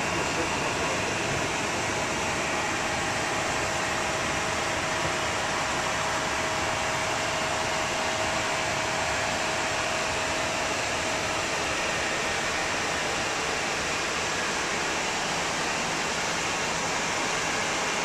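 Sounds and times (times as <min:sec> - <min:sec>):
cockpit air and fan noise: 0:00.0 - 0:18.0
steady whine: 0:00.0 - 0:18.0.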